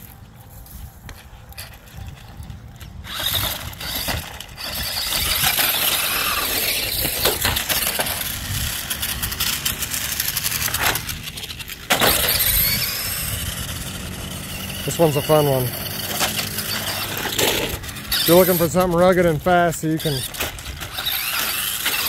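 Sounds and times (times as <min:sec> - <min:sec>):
tyres scrabbling over mulch: 0:00.0 - 0:22.0
toy truck electric motor whining: 0:01.1 - 0:22.0
toy truck knocking and tumbling: 0:01.1 - 0:22.0.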